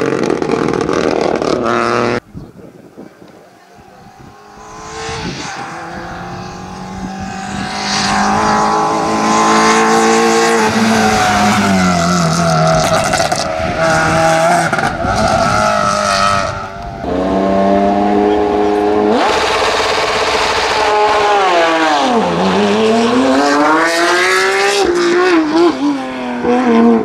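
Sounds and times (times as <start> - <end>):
rally car at full throttle: 0.0 - 2.3, 2.9 - 27.0.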